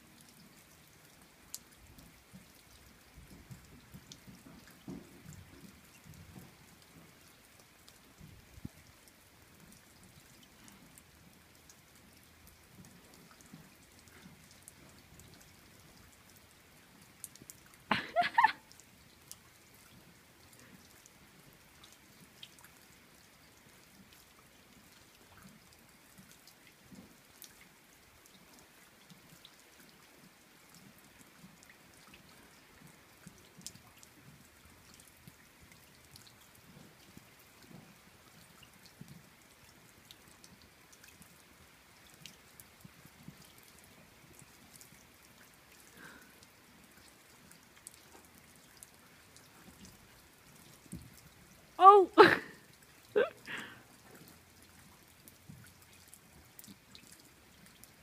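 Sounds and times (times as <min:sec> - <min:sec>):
light rain: 0:00.0 - 0:58.0
raindrops ticking and dripping: 0:00.0 - 0:58.0.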